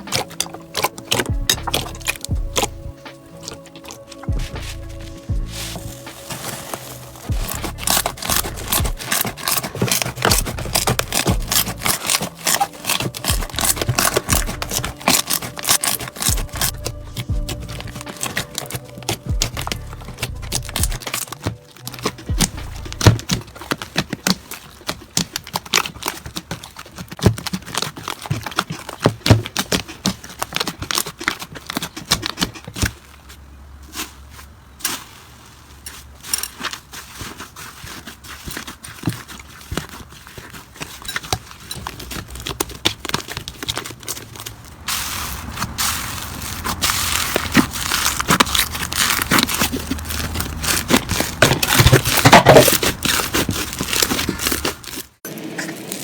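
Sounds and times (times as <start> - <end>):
slime crackling and popping: 0.0 - 32.9, 36.8 - 56.0.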